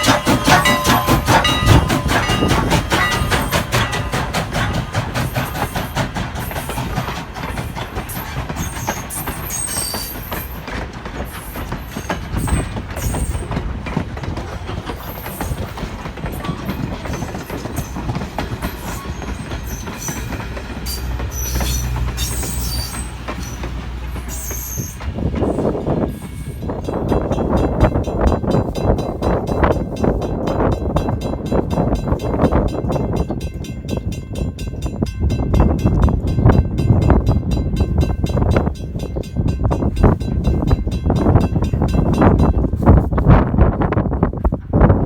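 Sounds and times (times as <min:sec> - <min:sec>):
steam train running past: 0:00.0 - 0:45.0
wheels clicking over rail joints: 0:00.0 - 0:45.0.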